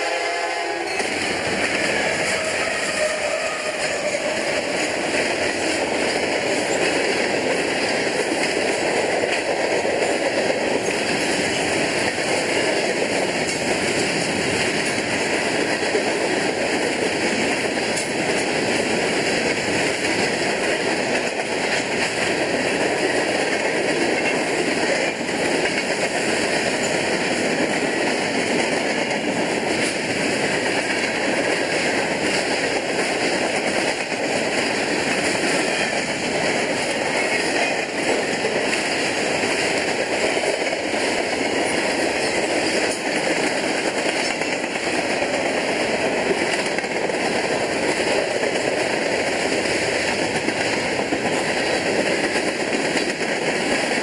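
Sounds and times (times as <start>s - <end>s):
freight train wheels rolling: 0.0s - 54.0s.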